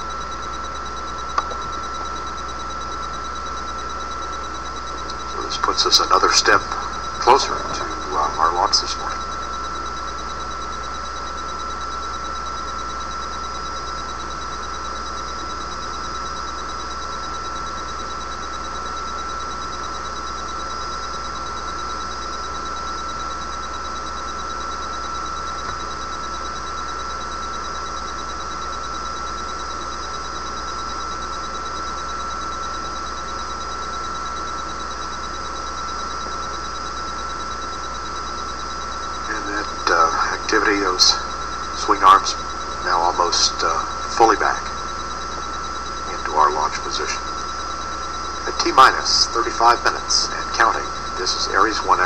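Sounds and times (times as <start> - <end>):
broadcast hiss and hum: 0.0 - 52.0
constant high-pitched tone: 0.0 - 52.0.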